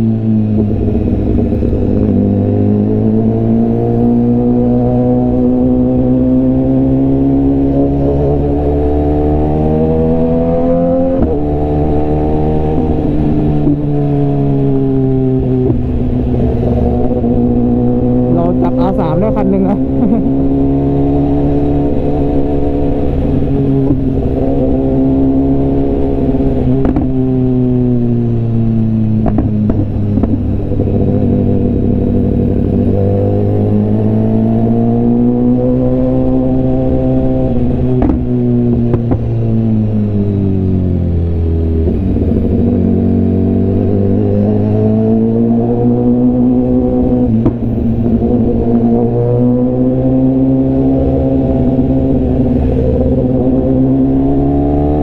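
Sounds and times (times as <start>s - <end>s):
motorcycle engine at low revs: 0.0s - 55.0s.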